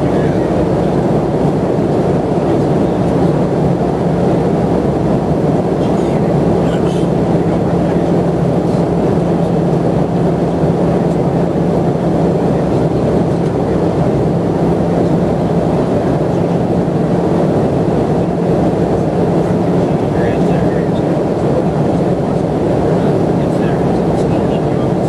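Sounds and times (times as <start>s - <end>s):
airliner cabin engine rush: 0.0s - 25.0s.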